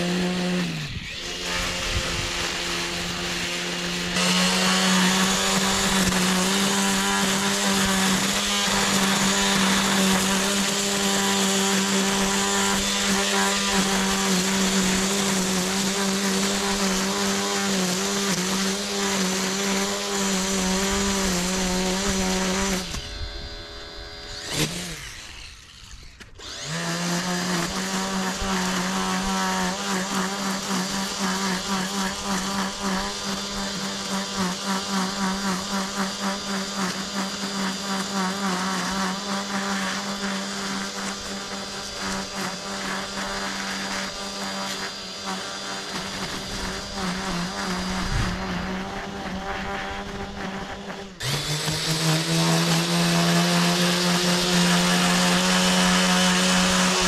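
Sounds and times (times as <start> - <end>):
string trimmer whining: 0.0 - 57.0.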